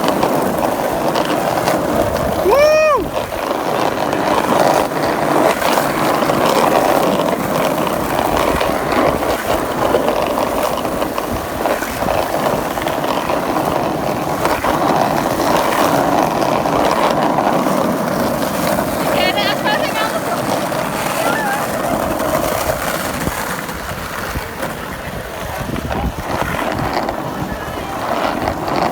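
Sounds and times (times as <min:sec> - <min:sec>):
skateboard clacks and knocks: 0:00.0 - 0:28.9
skateboard wheels rolling on concrete: 0:00.0 - 0:28.9.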